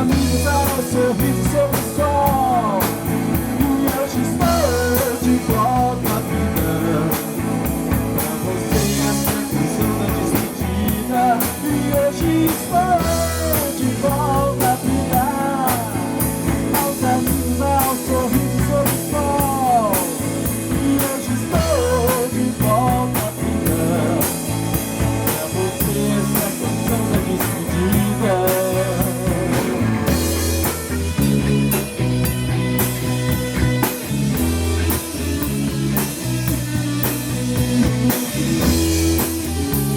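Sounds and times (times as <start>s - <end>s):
bass line: 0.0s - 39.9s
lead guitar bending notes: 0.0s - 39.9s
steady drum beat: 0.0s - 39.9s.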